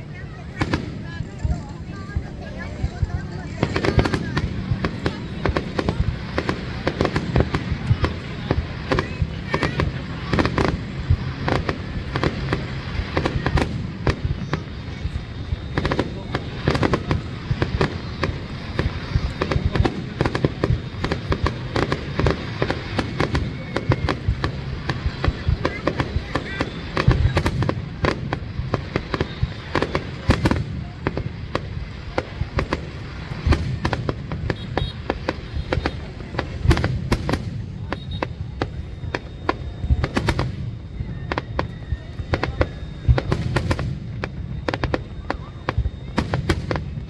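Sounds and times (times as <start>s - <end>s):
fireworks bangs and crackles: 0.0s - 47.0s
low rumble of explosions: 0.0s - 47.0s.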